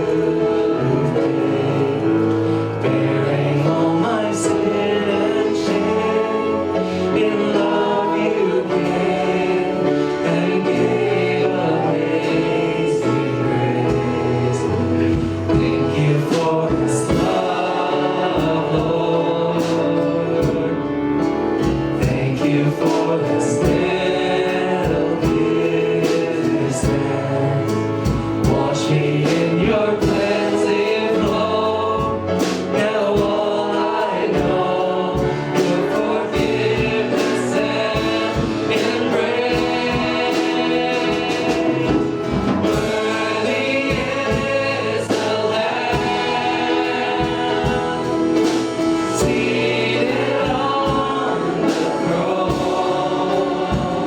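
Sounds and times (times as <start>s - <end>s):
band playing: 0.0s - 54.0s
gospel choir singing: 0.0s - 54.0s
steady drum beat: 0.0s - 54.0s.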